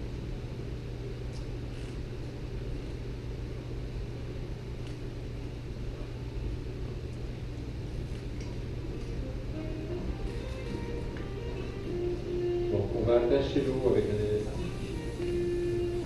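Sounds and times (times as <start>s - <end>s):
low rumble and hum of hall: 0.0s - 16.0s.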